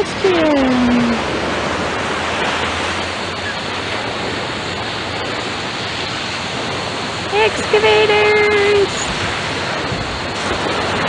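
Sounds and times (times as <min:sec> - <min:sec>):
ocean surf washing: 0:00.0 - 0:11.0.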